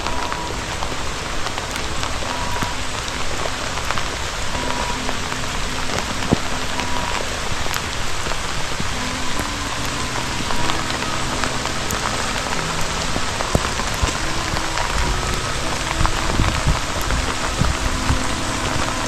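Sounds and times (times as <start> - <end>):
raindrops ticking: 0.0 - 19.0
steady rain: 0.0 - 19.0.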